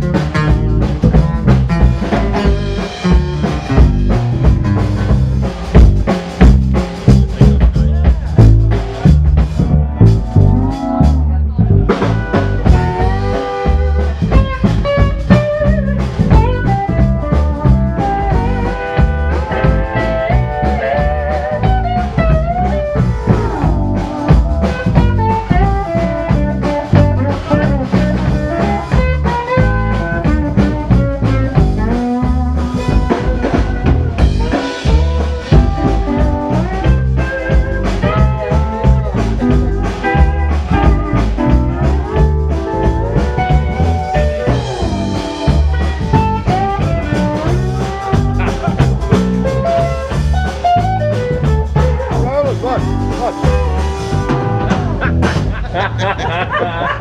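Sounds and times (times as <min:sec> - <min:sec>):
country band playing: 0:00.0 - 0:57.0.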